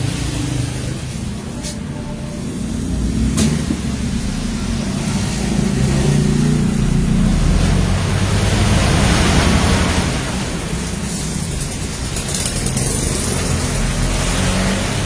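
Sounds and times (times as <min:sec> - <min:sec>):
low mechanical rumble: 0:00.8 - 0:13.8.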